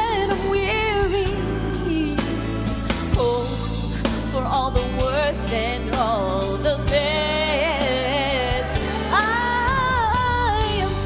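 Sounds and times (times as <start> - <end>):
musical accompaniment with steady beat: 0.0 - 11.0.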